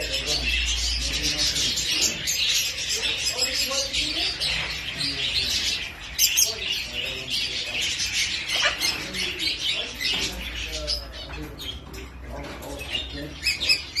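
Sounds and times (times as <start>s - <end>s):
birds chirping and squeaking: 0.0s - 14.0s.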